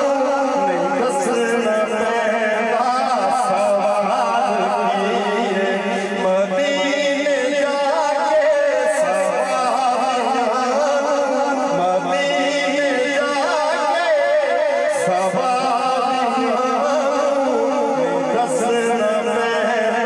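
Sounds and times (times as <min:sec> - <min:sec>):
man singing into microphone: 0:00.0 - 0:20.0.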